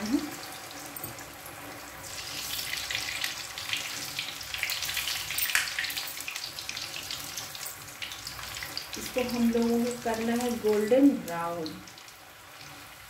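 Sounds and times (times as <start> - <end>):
hot oil sizzling and popping: 0.0 - 13.0.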